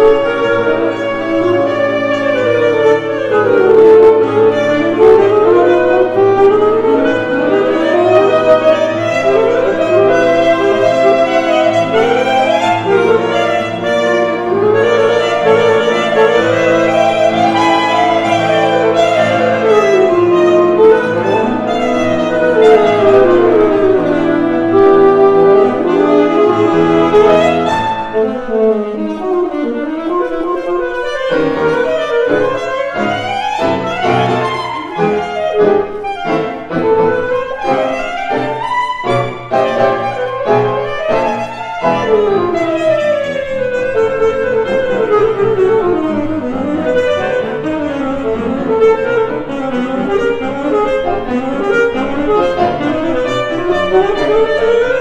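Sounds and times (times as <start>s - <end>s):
saxophones and piano chamber music: 0.0s - 55.0s.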